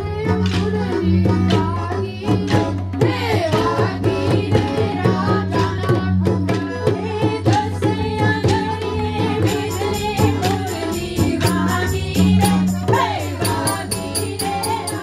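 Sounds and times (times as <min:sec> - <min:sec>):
group singing into microphones: 0:00.0 - 0:15.0
hand drum steady beat: 0:00.2 - 0:15.0.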